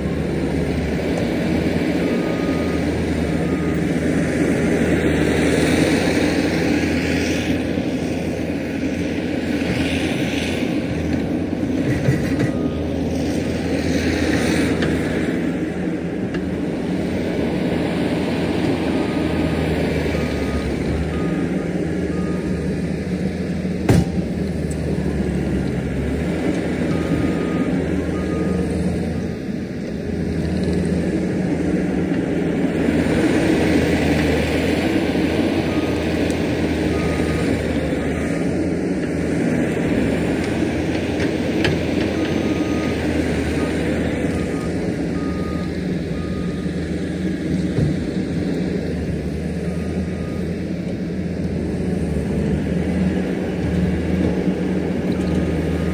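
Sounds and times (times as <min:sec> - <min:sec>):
diesel engine of heavy machinery: 0:00.0 - 0:55.9.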